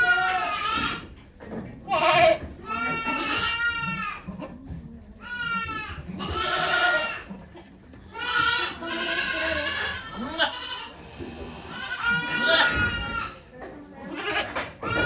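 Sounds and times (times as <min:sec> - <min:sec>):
goat bleating: 0:00.0 - 0:01.2, 0:01.8 - 0:04.3, 0:05.2 - 0:07.4, 0:08.1 - 0:13.4, 0:14.0 - 0:15.0.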